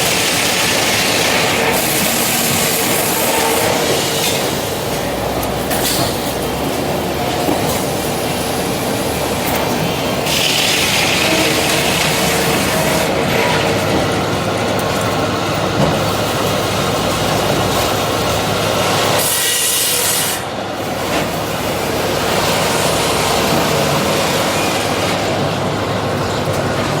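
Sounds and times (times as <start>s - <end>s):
sawmill machinery clattering: 0.0s - 27.0s.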